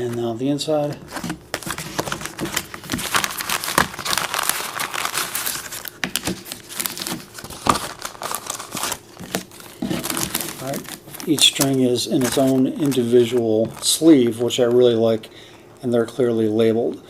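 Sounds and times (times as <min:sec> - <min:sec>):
crinkling of string pack: 0:01.1 - 0:14.8.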